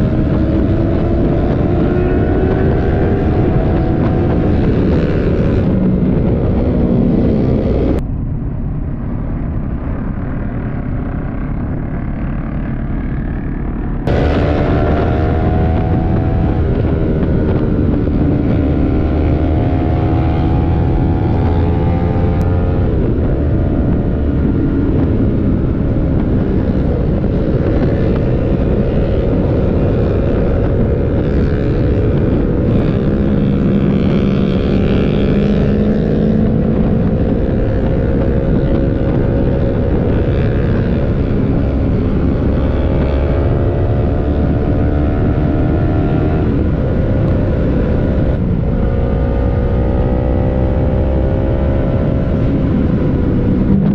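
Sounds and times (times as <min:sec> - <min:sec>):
motorcycle engine revving: 0:00.0 - 0:08.0, 0:10.0 - 0:53.9.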